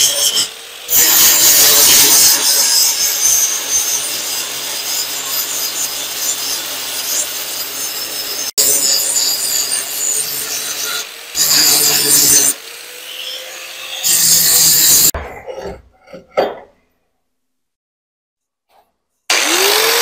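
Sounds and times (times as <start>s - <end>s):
angle grinder grinding steel: 0.0s - 16.7s, 19.3s - 20.0s.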